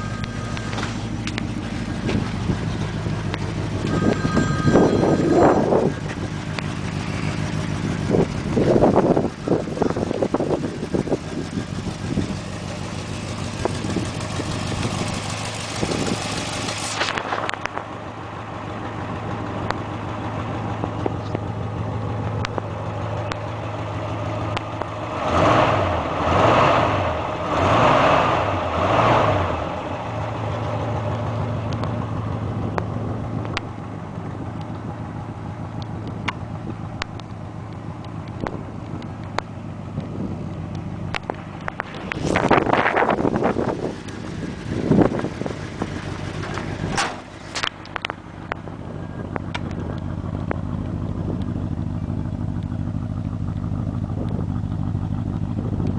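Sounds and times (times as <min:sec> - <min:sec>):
engine idling and revving: 0:00.0 - 0:55.9.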